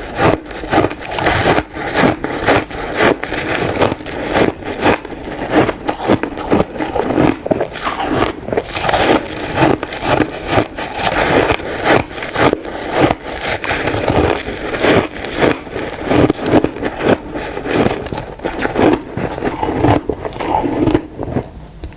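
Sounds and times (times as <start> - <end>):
ice crunching while chewed: 0.0 - 21.9.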